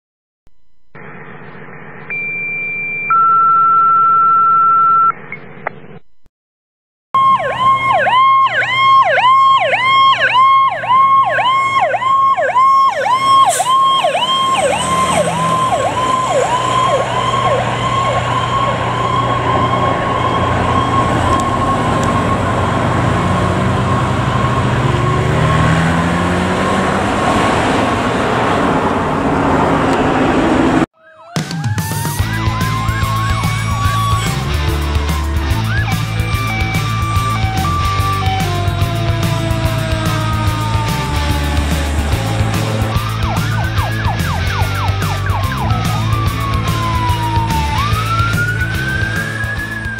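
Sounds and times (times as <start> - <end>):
truck engine and road noise: 7.2 - 30.9, 32.1 - 49.9
fire truck siren: 7.2 - 49.9.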